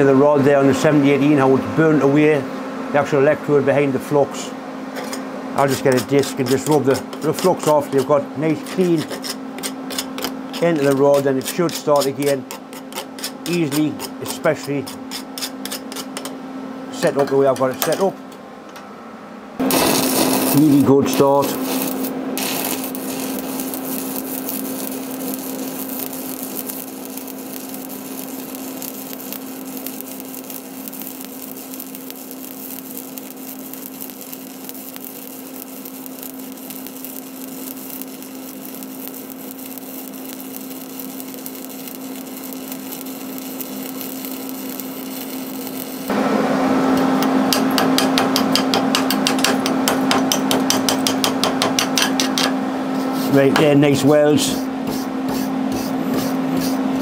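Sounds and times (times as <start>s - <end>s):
welding arc crackling sizzle: 5.0s - 16.3s, 19.6s - 57.0s.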